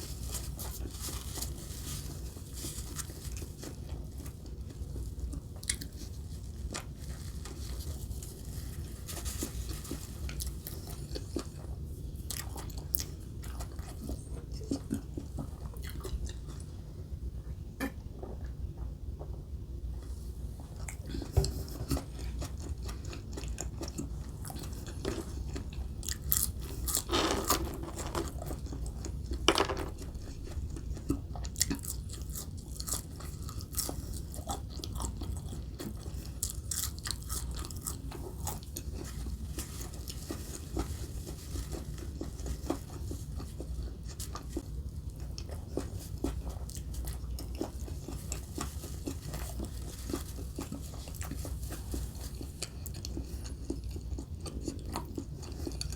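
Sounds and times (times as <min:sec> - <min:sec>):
crunchy chewing: 0:00.0 - 0:16.8, 0:20.6 - 0:55.9
low steady hum: 0:00.0 - 0:55.9.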